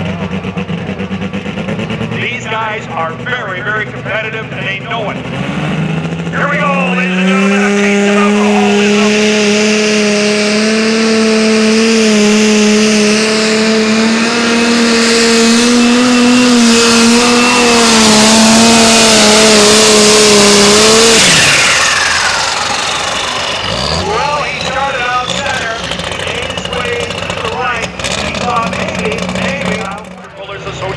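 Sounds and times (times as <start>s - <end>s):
tractor engine at full throttle: 0.0s - 30.9s
high whine winding down: 5.5s - 30.9s.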